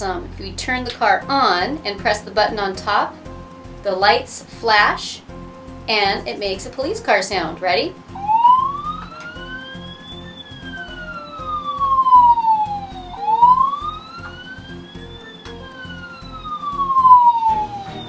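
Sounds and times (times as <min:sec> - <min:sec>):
music beat: 0:00.0 - 0:18.0.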